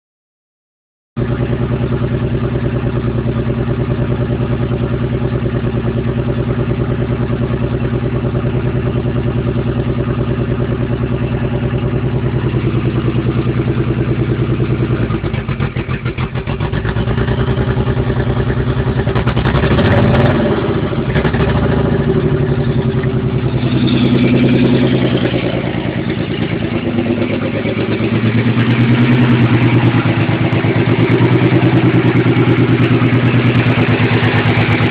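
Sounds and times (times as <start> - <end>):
car engine misfiring: 6.8 - 34.9.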